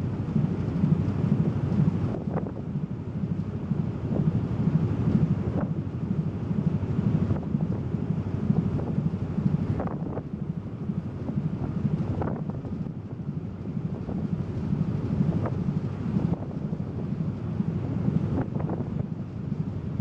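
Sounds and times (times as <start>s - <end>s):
ferry engine low rumble: 0.0s - 20.0s
wind buffeting microphone: 0.0s - 20.0s.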